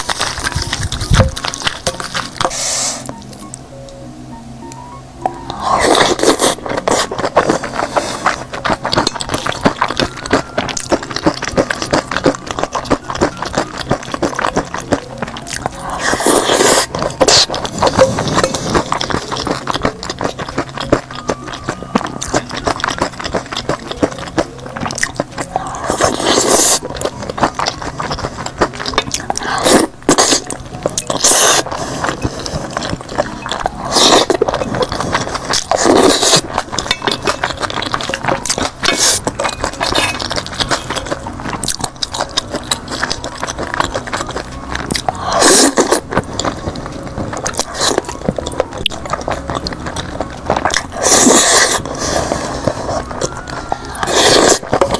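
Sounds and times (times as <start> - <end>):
chewing with wet mouth clicks: 0.0 - 4.0, 4.7 - 54.9.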